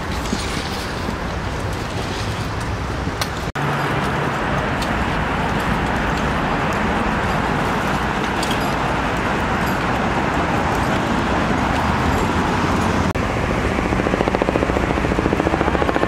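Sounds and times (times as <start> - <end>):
helicopter rotor beating: 0.0 - 16.0
steady rushing noise: 0.0 - 16.0.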